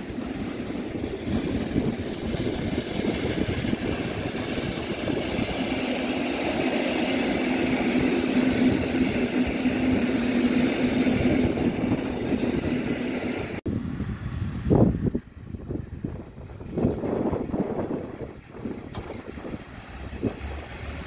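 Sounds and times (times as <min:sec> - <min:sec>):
electric train rolling past: 0:00.0 - 0:21.0.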